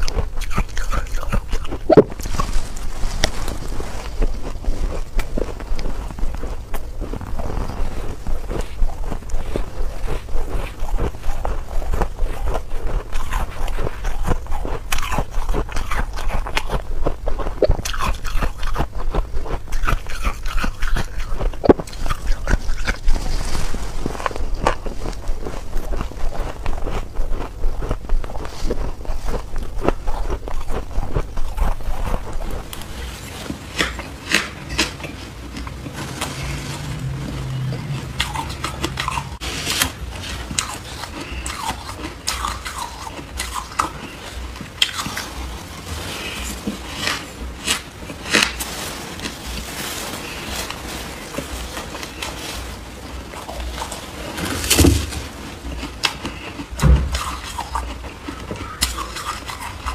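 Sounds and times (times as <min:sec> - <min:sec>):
shaved ice being chewed: 0:00.0 - 0:59.9.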